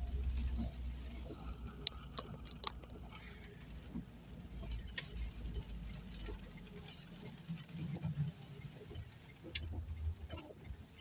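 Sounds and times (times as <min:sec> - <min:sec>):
low rumble of car rolling: 0:00.0 - 0:11.0
rain pattering on car roof: 0:00.0 - 0:11.0.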